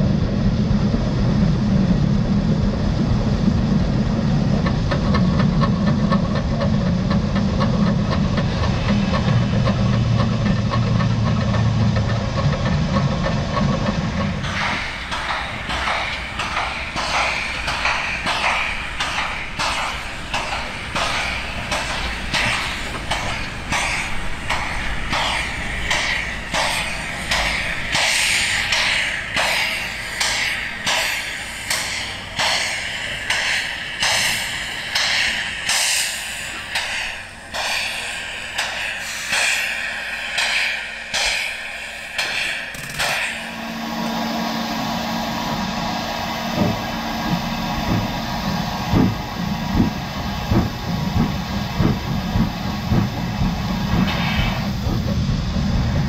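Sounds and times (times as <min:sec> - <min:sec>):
steam locomotive chuffing: 0:00.0 - 0:56.0
train running with low hum: 0:00.0 - 0:56.0.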